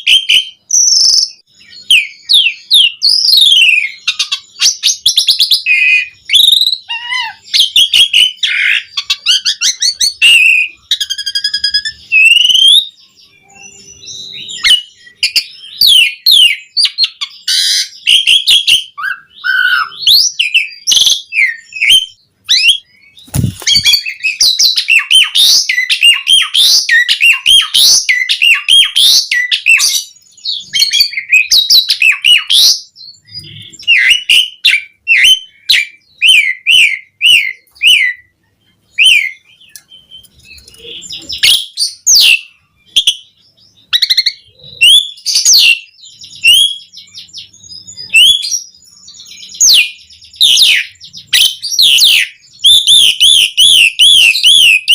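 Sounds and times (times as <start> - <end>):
starling singing: 0.0 - 54.9.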